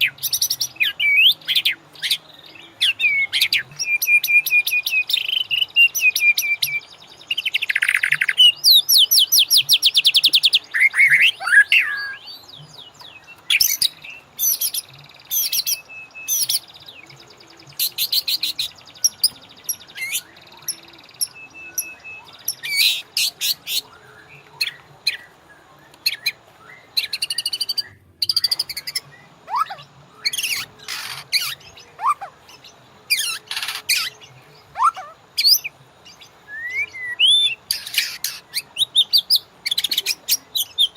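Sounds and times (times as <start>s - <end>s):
bird singing varied song: 0.0s - 40.9s.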